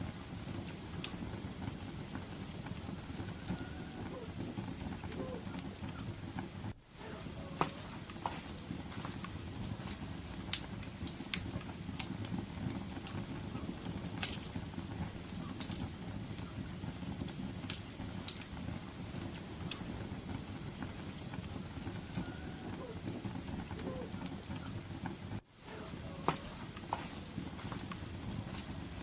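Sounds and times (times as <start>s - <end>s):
fire popping and snapping: 0.0s - 29.0s
wood fire crackling: 0.0s - 29.0s.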